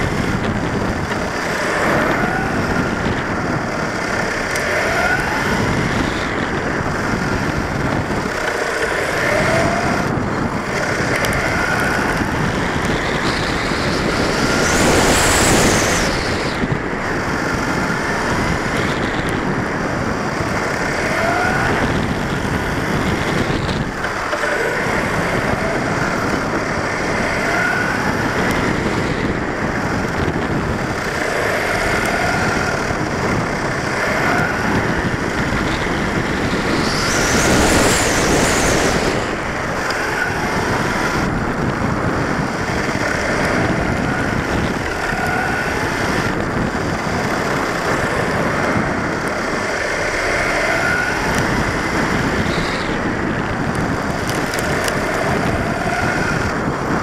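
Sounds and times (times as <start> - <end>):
drivetrain whine: 0.0 - 57.0
tyre and wind noise: 0.0 - 57.0.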